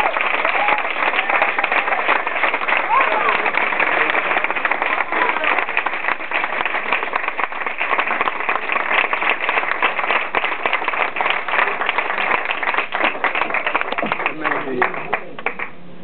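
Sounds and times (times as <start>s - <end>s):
many hands clapping: 0.0s - 15.8s.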